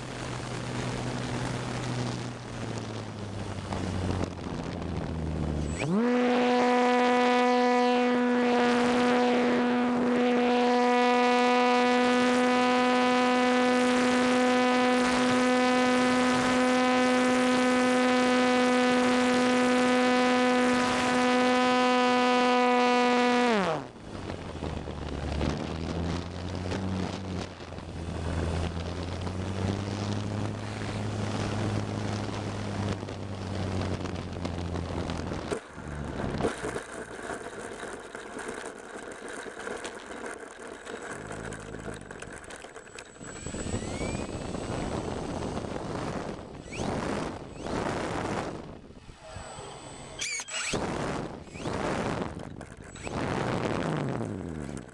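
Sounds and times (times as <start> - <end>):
electric motor propeller whine: 0.0 - 54.9.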